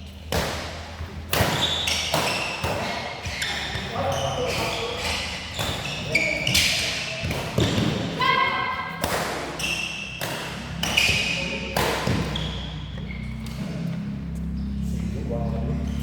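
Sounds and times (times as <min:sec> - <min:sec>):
rackets hitting shuttlecock: 0:00.2 - 0:08.2, 0:08.9 - 0:14.0
shoes squeaking on court: 0:01.1 - 0:08.1, 0:09.5 - 0:15.1, 0:15.7 - 0:16.0.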